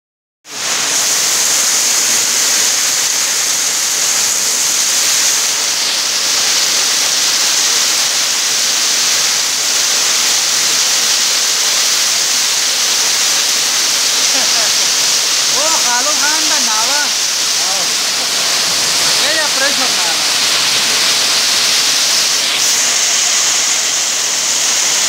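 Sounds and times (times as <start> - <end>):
heavy rain on a street: 0.4 - 25.0.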